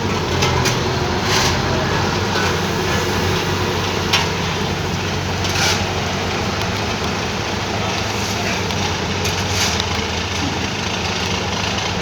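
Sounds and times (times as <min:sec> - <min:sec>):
construction machinery engine: 0:00.0 - 0:12.0.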